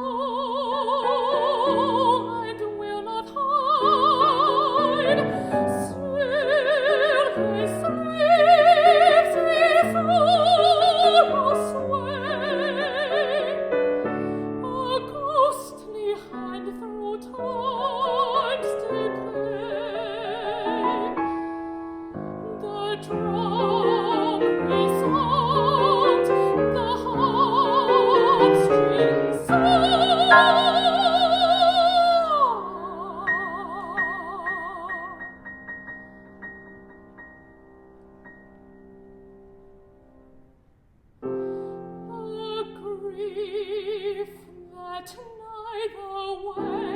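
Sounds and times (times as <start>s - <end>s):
opera-style singing: 0.0s - 35.4s, 41.7s - 46.9s
piano: 0.0s - 46.9s.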